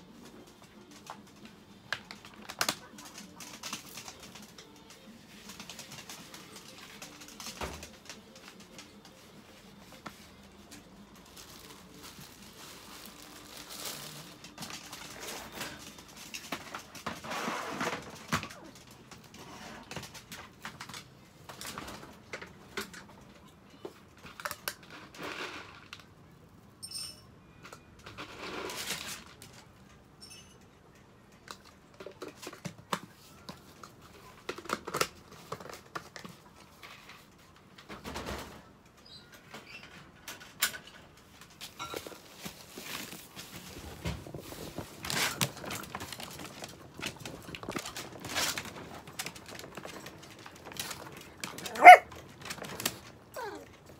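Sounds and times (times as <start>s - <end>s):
plastic crinkling and rustling: 0.0s - 23.2s, 28.0s - 29.8s, 31.4s - 53.9s.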